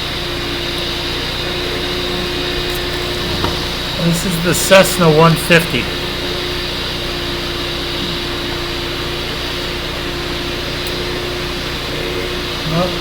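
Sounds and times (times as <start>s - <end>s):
mechanical hum with whoosh: 1.2s - 13.0s.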